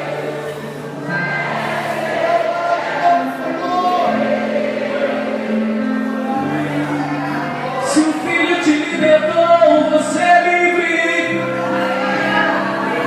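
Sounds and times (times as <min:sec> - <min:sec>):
band playing sustained chords: 0:00.0 - 0:13.0
congregation singing: 0:00.0 - 0:13.0.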